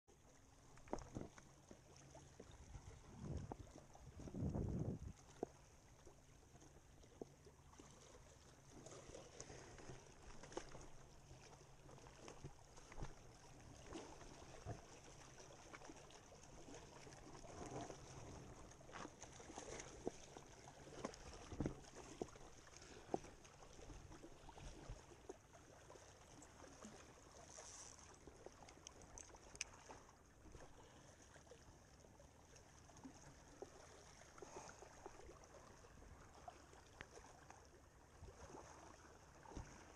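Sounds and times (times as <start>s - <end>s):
small waves lapping on rocks: 0.1s - 39.9s.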